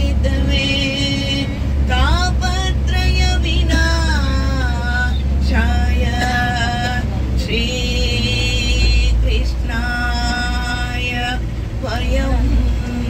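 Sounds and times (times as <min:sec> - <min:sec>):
bus rumble: 0:00.0 - 0:13.0
women singing devotional song: 0:00.0 - 0:13.0.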